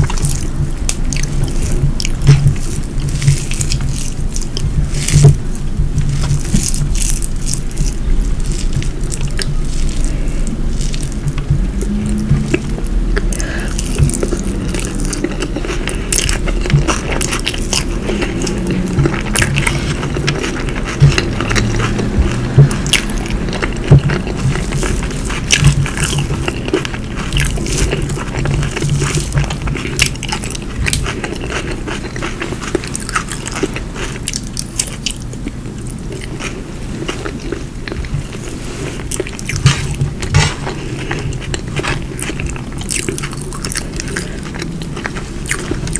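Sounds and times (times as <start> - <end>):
chewing with wet mouth clicks: 0.0 - 45.9
food crunching: 0.0 - 45.9.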